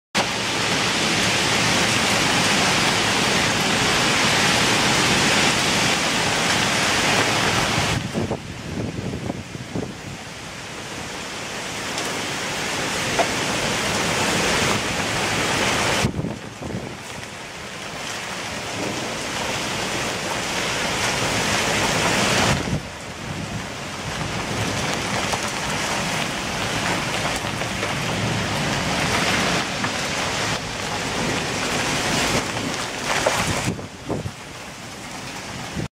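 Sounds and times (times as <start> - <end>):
heavy rain pouring: 0.2 - 35.9.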